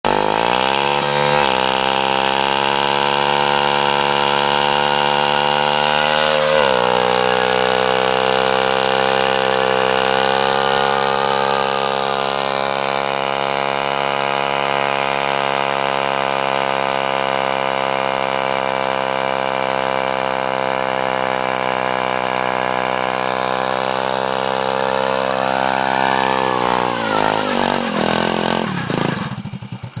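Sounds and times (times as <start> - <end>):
scooter engine at high revs: 0.0 - 30.0
tyre spinning on asphalt: 0.1 - 30.0.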